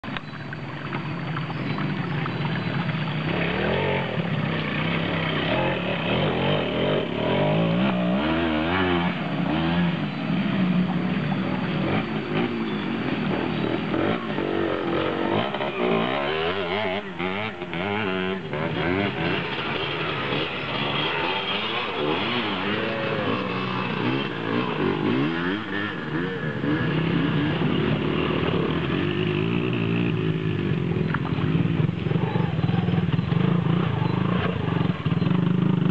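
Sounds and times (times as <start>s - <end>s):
motorcycle engines revving: 0.0s - 35.9s.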